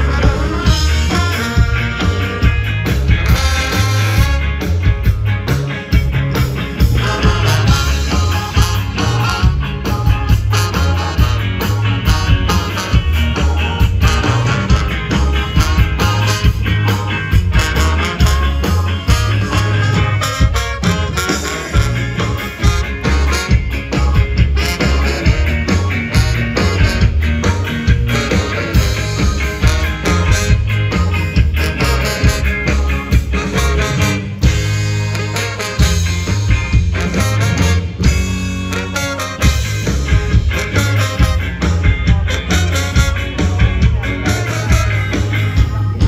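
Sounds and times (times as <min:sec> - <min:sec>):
pulsing bass line: 0:00.0 - 0:46.0
rock band playing: 0:00.0 - 0:46.0.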